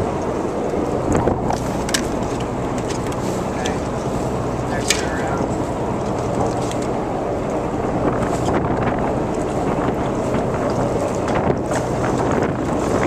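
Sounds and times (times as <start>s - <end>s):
boat engine humming: 0.0s - 13.0s
wind buffeting microphone: 0.0s - 13.0s.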